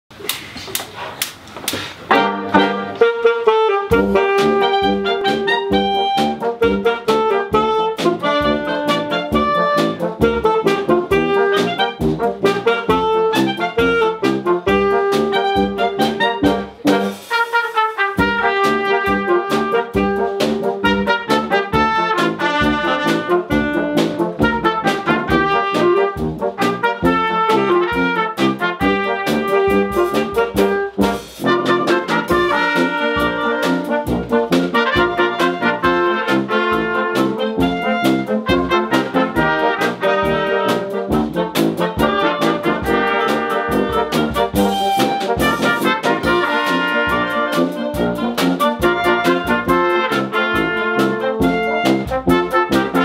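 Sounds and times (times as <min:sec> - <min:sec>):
brass and woodwind band playing: 0:02.1 - 0:53.0.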